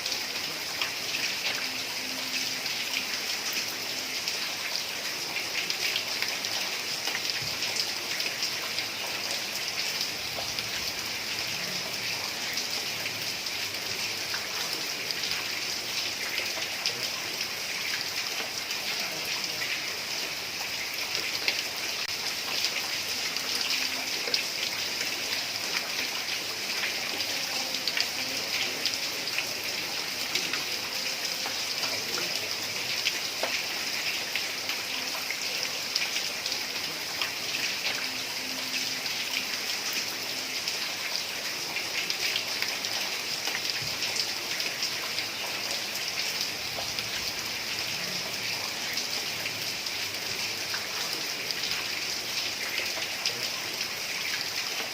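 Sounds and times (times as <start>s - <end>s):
heavy rain on a tiled roof: 0.0s - 54.9s.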